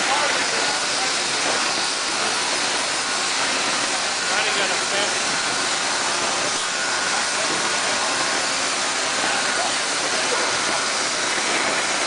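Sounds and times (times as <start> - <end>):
motor and conveyor noise: 0.0 - 12.0.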